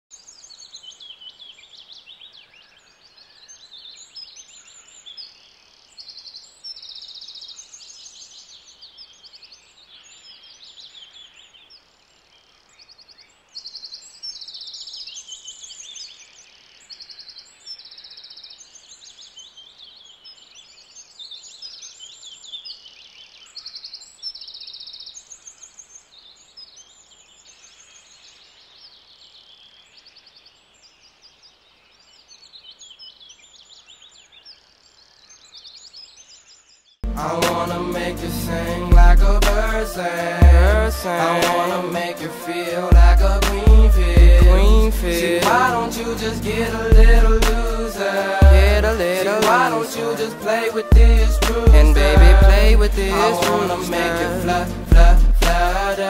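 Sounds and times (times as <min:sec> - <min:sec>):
birds chirping and trilling: 0:00.2 - 0:56.0.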